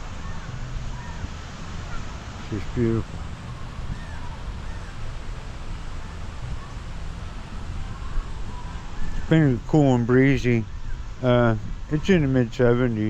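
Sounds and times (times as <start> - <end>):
faint bird calls: 0.0 - 13.0
wind rumbling on microphone: 0.0 - 13.0.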